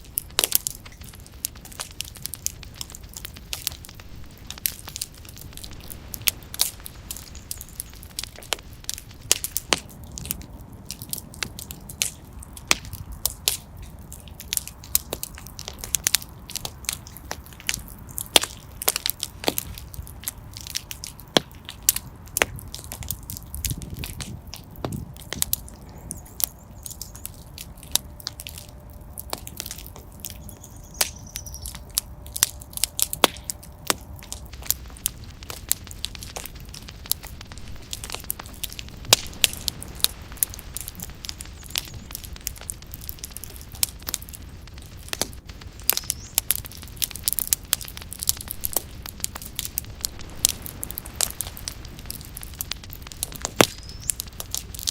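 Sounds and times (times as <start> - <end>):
fire crackling and popping: 0.0 - 54.9
low rumble of flame: 0.0 - 54.9.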